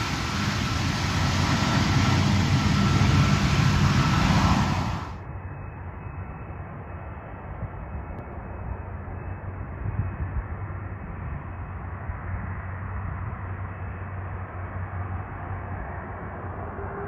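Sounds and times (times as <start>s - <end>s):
jet engines rumbling: 0.0s - 5.3s, 7.5s - 17.0s.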